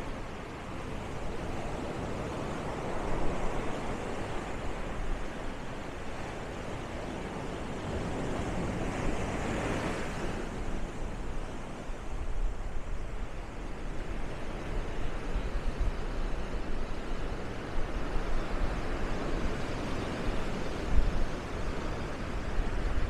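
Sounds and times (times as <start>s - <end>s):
ocean surf washing: 0.0s - 23.0s.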